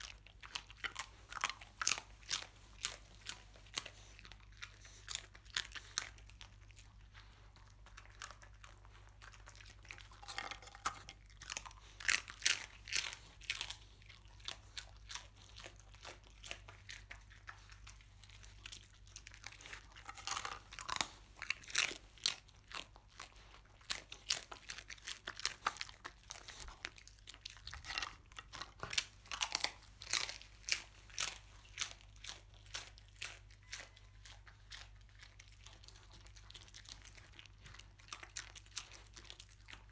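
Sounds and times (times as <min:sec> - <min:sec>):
dog crunching and chewing: 0:00.0 - 0:39.9.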